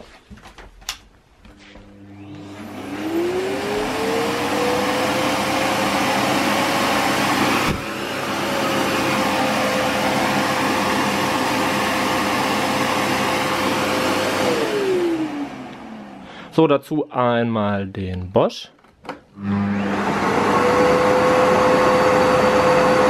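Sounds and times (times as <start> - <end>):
vacuum cleaner motor whine: 1.5 - 16.3, 19.3 - 23.0.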